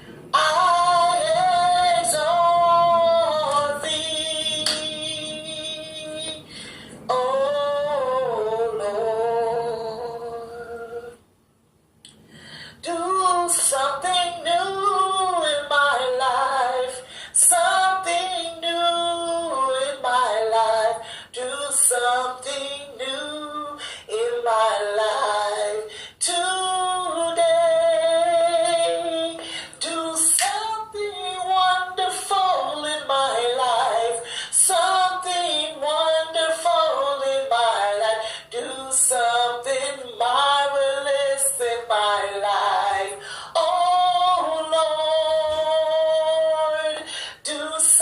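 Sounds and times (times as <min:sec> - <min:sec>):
woman singing: 0:00.3 - 0:11.2, 0:12.8 - 0:48.0.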